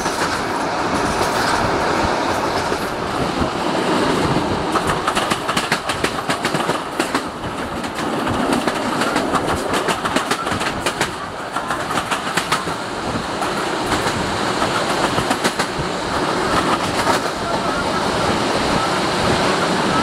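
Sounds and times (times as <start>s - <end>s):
train wheels clicking over rail joints: 0.0s - 17.7s
rush of track and wind noise: 0.0s - 20.0s.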